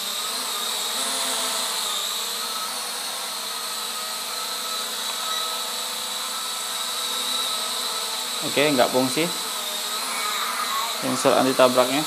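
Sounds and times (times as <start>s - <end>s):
toy drone propellers whining: 0.0s - 12.0s.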